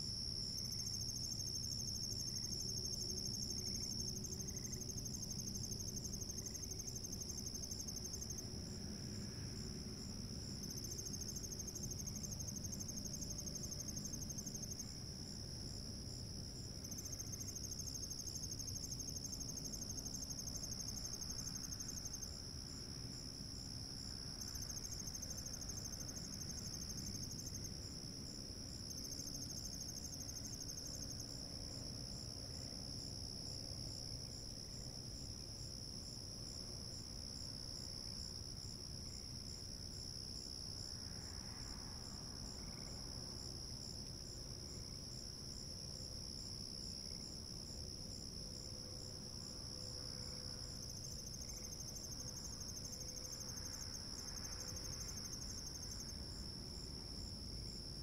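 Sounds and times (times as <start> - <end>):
crickets trilling: 0.0 - 58.0
higher pulsing insect trill: 0.0 - 58.0.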